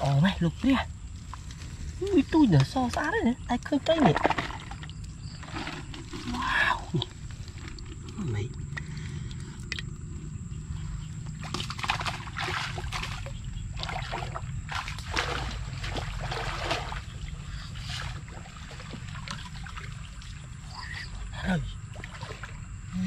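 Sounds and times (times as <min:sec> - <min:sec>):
muddy water splashing: 0:00.0 - 0:23.0
steady low rumble: 0:00.0 - 0:23.0.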